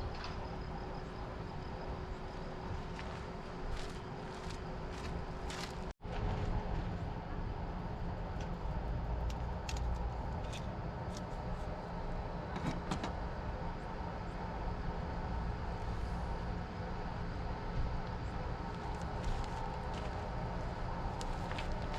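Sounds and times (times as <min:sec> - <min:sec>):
vehicle engine rumbling: 0:00.0 - 0:21.9.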